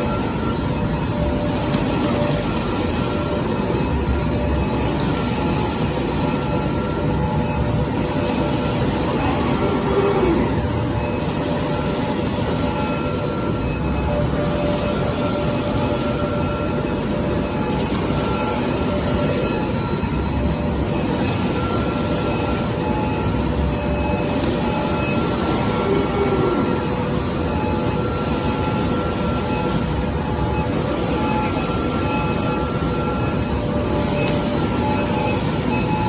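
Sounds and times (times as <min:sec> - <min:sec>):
faint machine whine: 0:00.0 - 0:36.0.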